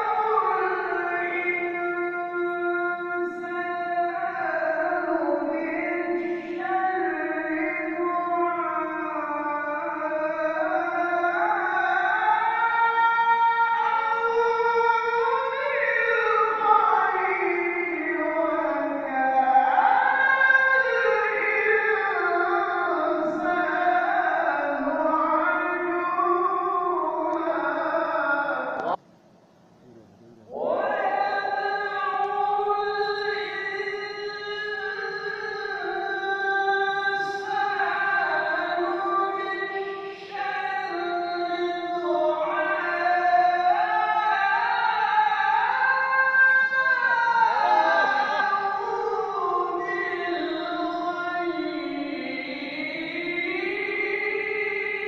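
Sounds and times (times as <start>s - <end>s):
person reciting in melodic chant: 0.0s - 29.0s, 29.8s - 55.0s.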